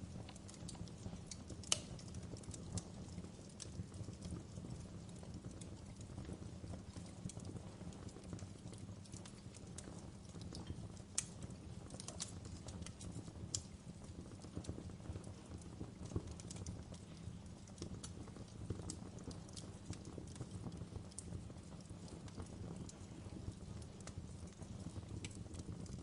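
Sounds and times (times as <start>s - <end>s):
log fire crackling: 0.0s - 26.0s.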